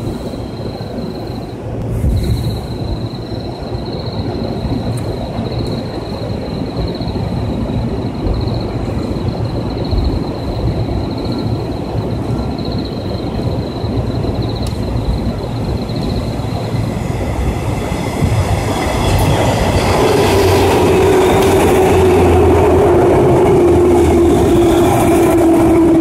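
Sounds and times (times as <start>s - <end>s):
electric train rumbling: 0.0s - 26.0s.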